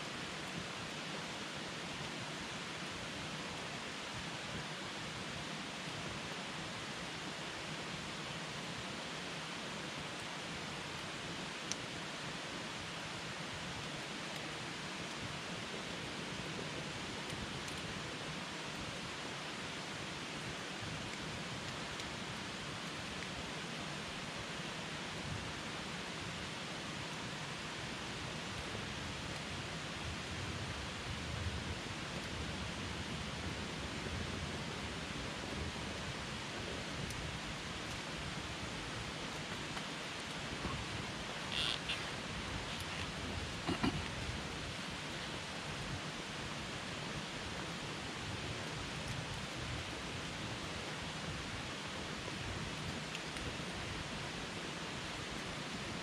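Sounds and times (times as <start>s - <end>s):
campfire flames hissing: 0.0s - 56.0s
fire crackles: 7.5s - 56.0s.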